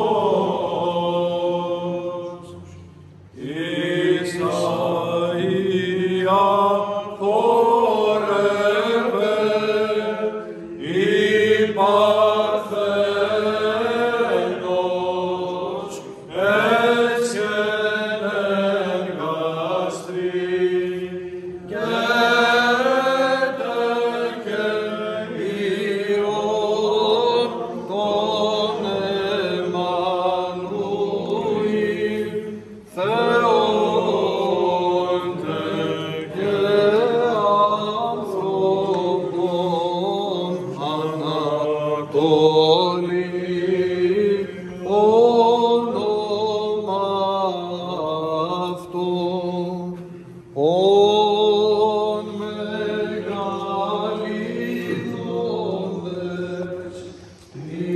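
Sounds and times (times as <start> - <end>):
men chanting over a held low note: 0.0 - 57.9.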